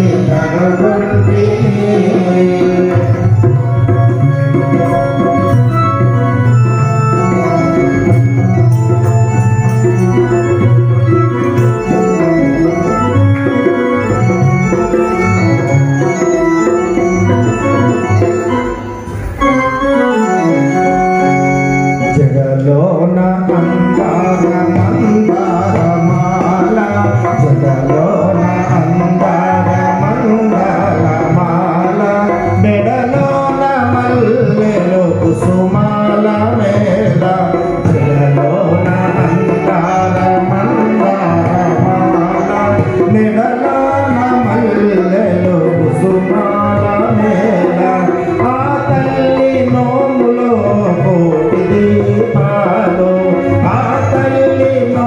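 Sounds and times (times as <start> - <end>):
keyboard organ tones: 0.0 - 55.0
man singing into microphone: 0.0 - 55.0.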